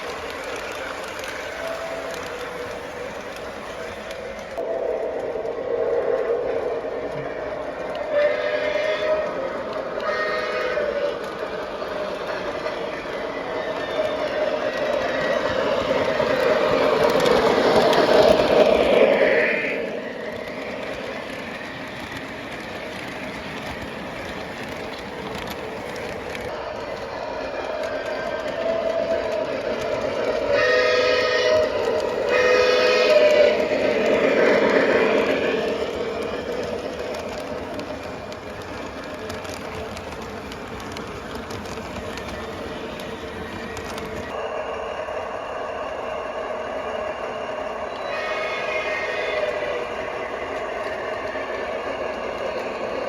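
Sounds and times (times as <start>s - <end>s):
model train rolling rumble: 0.0s - 53.0s
wheels clicking on rail joints: 0.0s - 53.0s.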